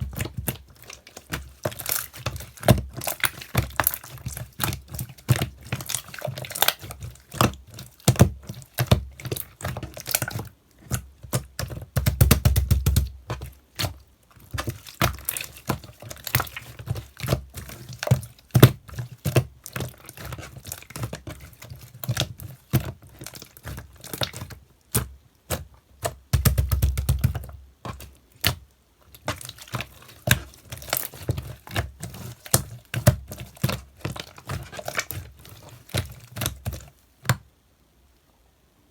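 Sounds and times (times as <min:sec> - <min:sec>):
hands squishing wet slime: 0:00.0 - 0:37.5.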